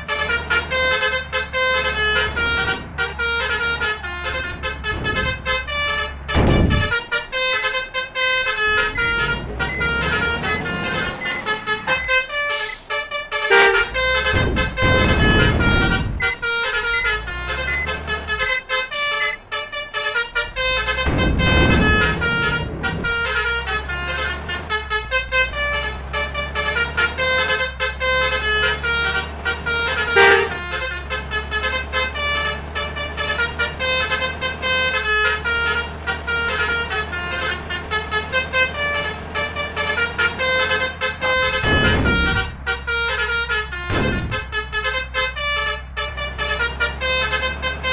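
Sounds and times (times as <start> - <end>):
heavy vehicle engines: 0.0 - 47.9
melodic bus horns: 0.0 - 47.9.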